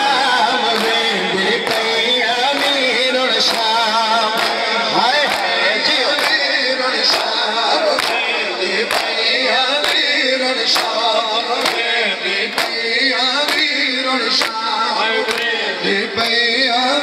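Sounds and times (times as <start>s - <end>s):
voices chanting: 0.0s - 17.0s.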